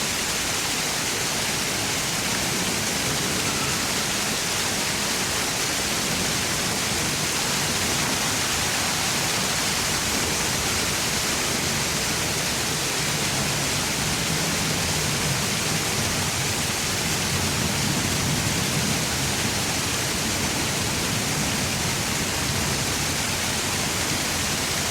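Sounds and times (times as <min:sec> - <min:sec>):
fountain water splashing: 0:00.0 - 0:24.9.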